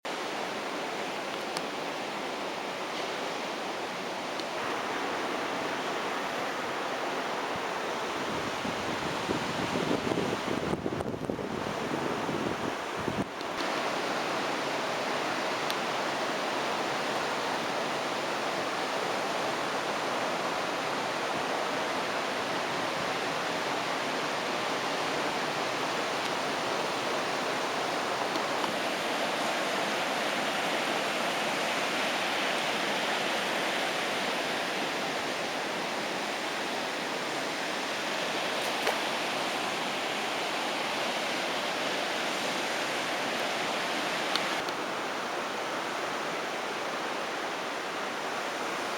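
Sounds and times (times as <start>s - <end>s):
sea surf breaking on a beach: 0.1s - 48.9s.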